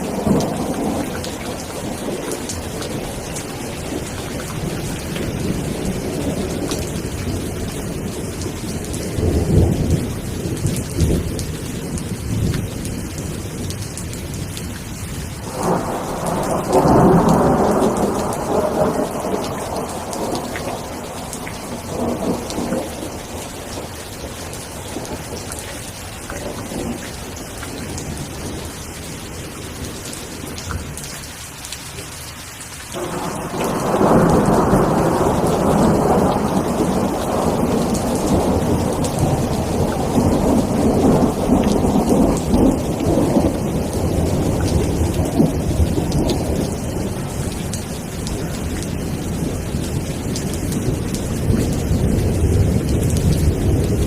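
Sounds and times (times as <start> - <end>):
rolling thunder: 0.0 - 14.7, 15.4 - 31.1, 33.0 - 54.0
steady rainfall: 0.0 - 54.0.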